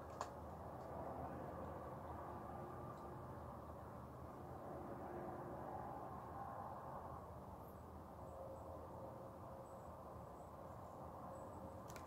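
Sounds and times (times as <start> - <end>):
faint outdoor hum: 0.0 - 12.0.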